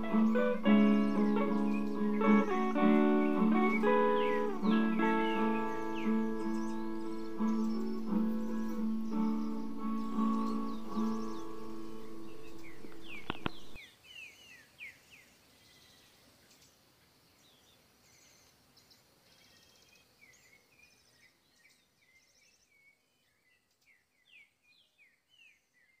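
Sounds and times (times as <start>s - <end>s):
faint birdsong chirps: 0.0s - 26.0s.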